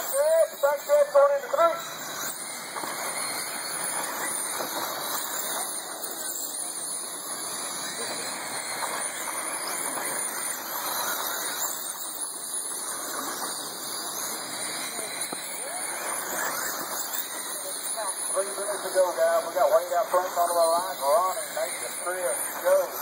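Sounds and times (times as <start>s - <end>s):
rc car motors whining: 0.0s - 23.0s.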